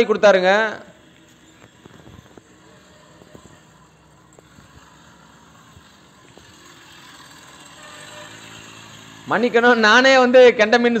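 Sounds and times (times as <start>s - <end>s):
faint road traffic hum: 0.0s - 11.0s.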